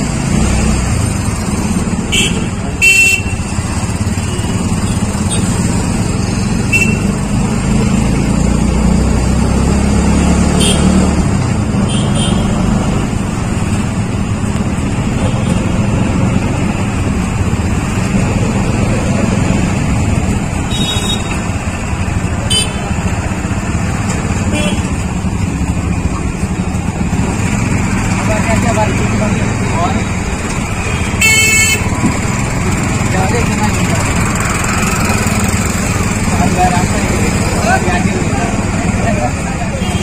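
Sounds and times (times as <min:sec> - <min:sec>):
rickshaw and motorbike engines: 0:00.0 - 0:40.0.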